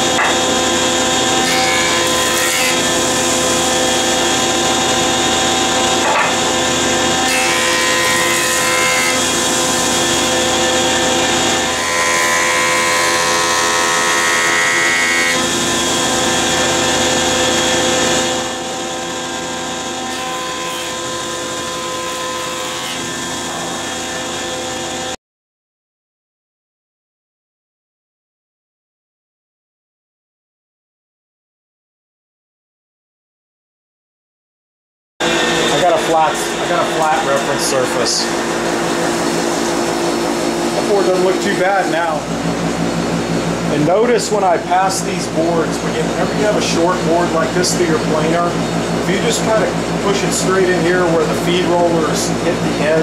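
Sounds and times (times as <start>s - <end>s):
jointer planing board: 0.0s - 25.2s, 35.2s - 53.0s.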